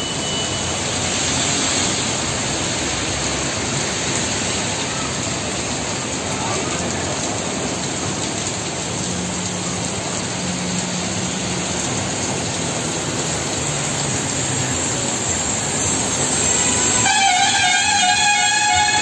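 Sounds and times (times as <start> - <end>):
heavy rain splashing on water: 0.0 - 19.0.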